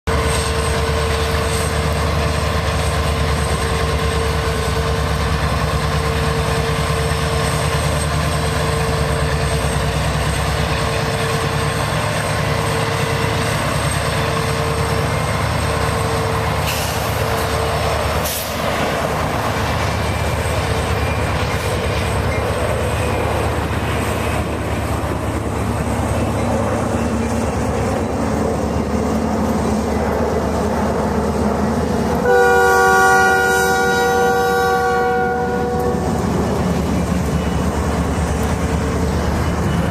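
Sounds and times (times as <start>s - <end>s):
diesel locomotive engine running: 0.1s - 39.9s
train cars rumbling on rails: 0.1s - 39.9s.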